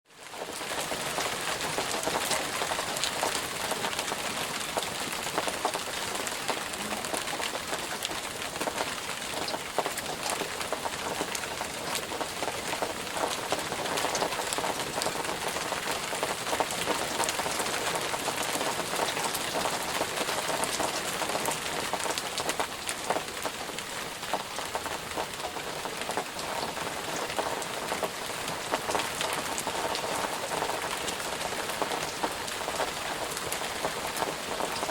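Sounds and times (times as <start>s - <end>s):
rain pattering on a surface: 0.1s - 34.9s.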